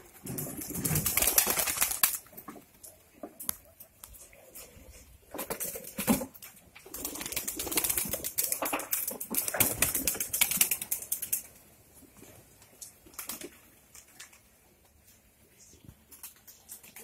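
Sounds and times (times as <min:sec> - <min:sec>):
pigeons flapping and scuffling: 0:00.0 - 0:04.0, 0:04.6 - 0:17.0.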